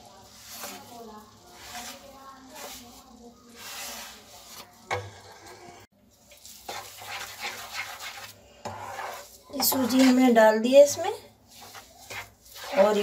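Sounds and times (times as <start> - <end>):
spatula stirring in a pan: 0.0 - 13.0
wooden spatula scraping plate: 0.2 - 5.9, 6.6 - 13.0.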